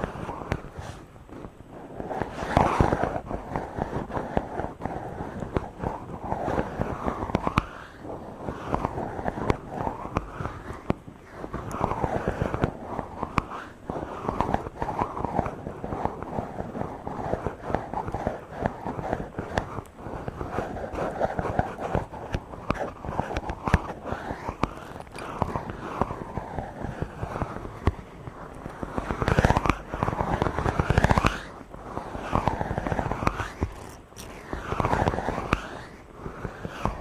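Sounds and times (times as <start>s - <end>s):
microphone rubbing: 0.0s - 37.0s.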